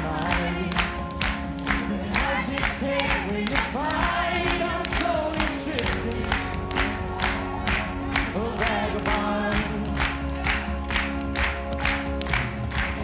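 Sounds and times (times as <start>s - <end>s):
gospel worship song: 0.0s - 13.0s.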